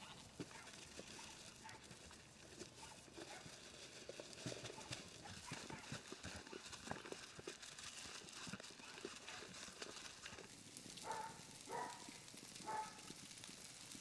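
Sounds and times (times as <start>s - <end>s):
sheep crunching grain: 0.0s - 14.0s.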